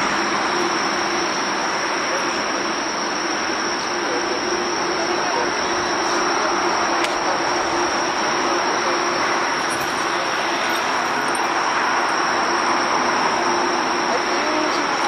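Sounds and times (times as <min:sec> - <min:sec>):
high-pitched turbine whine: 0:00.0 - 0:15.0
jet engine rush: 0:00.0 - 0:15.0.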